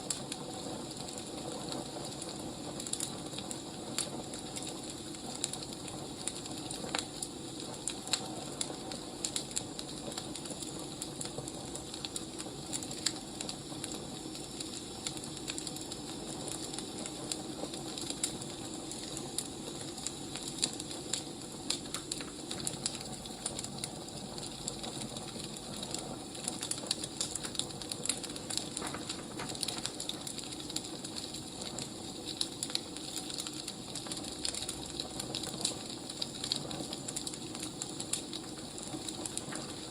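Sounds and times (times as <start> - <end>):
fire crackling and popping: 0.0 - 39.9
fire hissing: 0.0 - 39.9.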